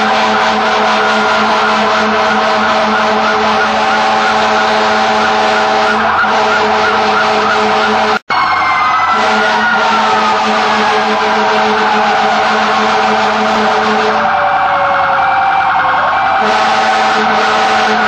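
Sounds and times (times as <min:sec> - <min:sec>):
fire truck sirens: 0:00.0 - 0:18.0.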